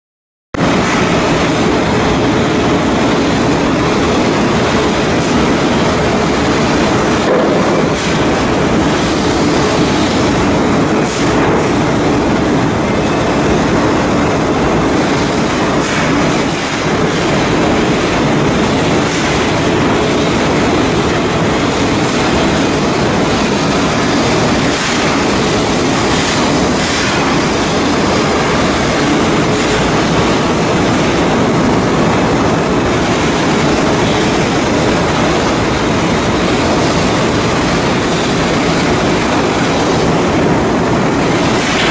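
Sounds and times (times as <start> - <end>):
industrial machinery noise: 0.6 - 41.9.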